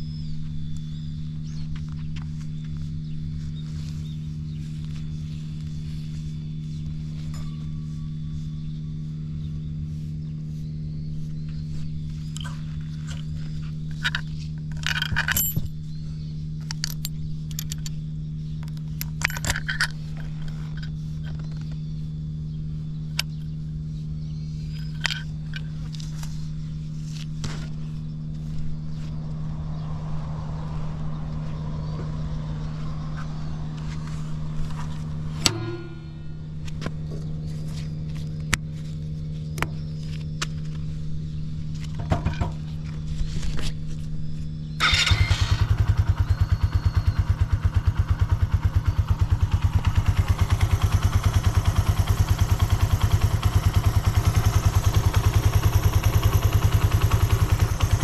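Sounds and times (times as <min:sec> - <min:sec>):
motorcycle engine idling: 0:00.0 - 0:43.2, 0:44.6 - 0:58.0.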